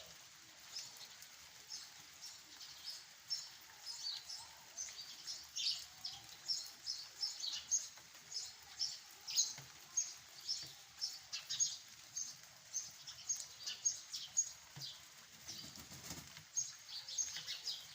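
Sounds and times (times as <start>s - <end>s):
birds chirping: 0.0s - 17.9s
faint steady background noise: 0.0s - 17.9s.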